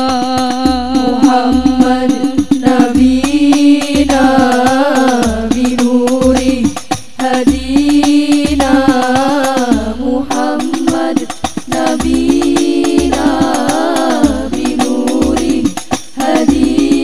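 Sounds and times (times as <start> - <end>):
deep low drum beat: 0.0 - 17.0
girls singing in unison: 0.0 - 17.0
hand-struck frame drums: 0.0 - 17.0.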